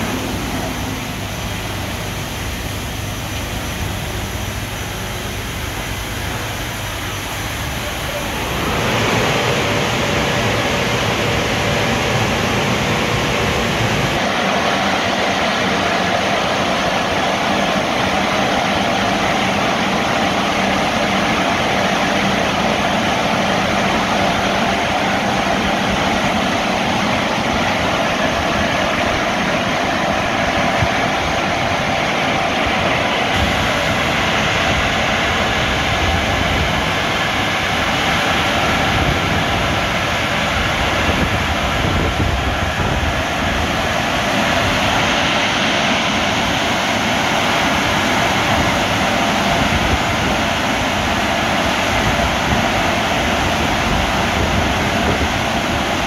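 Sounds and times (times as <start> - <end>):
car wash drying blowers roaring: 0.0 - 56.0.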